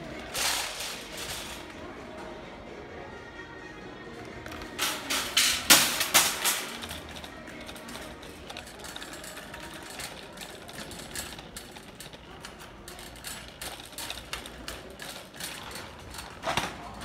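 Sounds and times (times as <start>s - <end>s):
shopping cart rattling: 0.0s - 2.2s, 4.2s - 17.0s.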